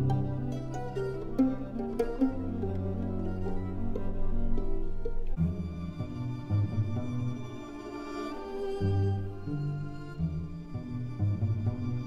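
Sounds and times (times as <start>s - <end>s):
string instrument music: 0.0s - 12.0s.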